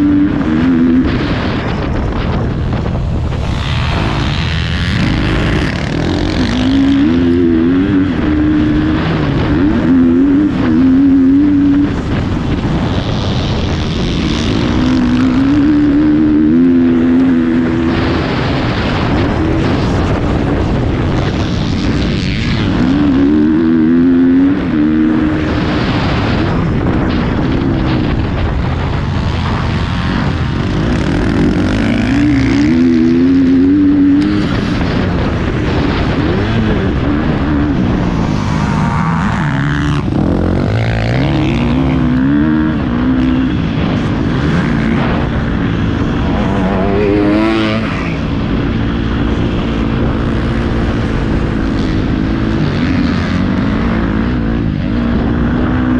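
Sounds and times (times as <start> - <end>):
motocross bike engine revving: 0.0 - 55.9
wind rushing: 0.0 - 55.9.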